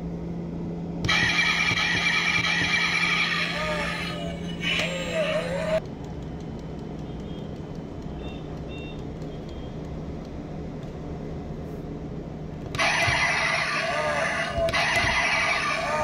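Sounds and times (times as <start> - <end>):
car engine running: 0.6 - 16.0.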